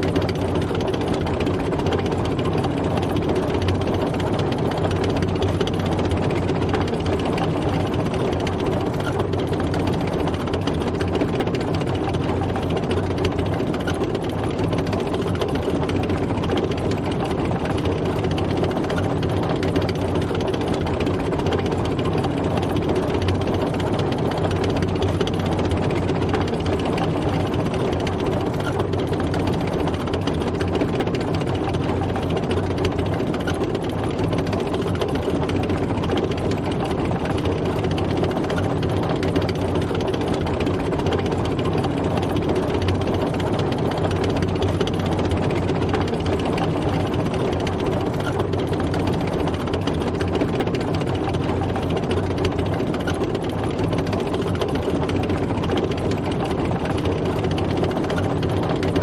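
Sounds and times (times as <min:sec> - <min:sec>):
fast track clatter: 0:00.0 - 0:59.0
tank engine running: 0:00.0 - 0:59.0.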